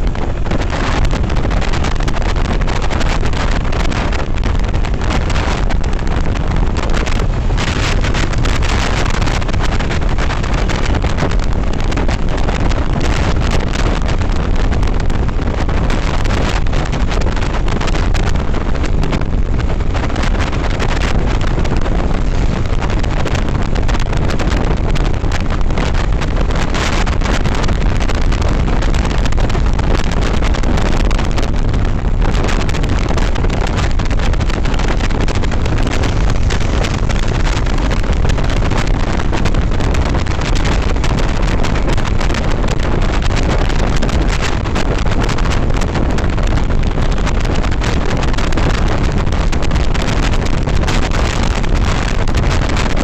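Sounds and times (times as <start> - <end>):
motorcycle engine running: 0.0 - 50.2
road noise: 0.0 - 53.0
wind buffeting microphone: 0.0 - 53.0.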